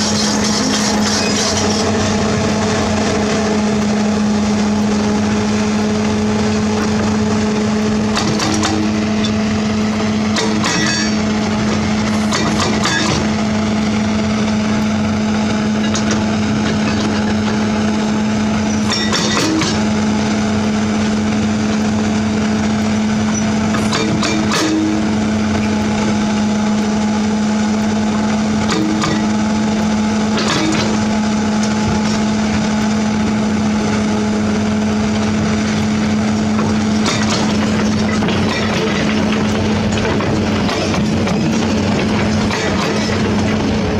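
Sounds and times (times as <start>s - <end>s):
diesel machine engine running: 0.0s - 43.9s.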